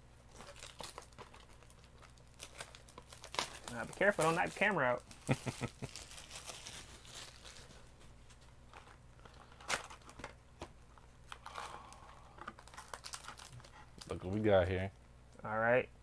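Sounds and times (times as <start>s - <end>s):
packaging crinkling and tearing: 0.3s - 7.9s, 8.7s - 14.4s.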